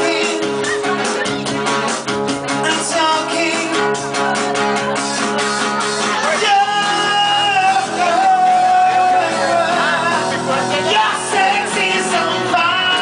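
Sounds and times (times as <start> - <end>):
drums beating: 0.0 - 13.0
rock band playing loudly: 0.0 - 13.0.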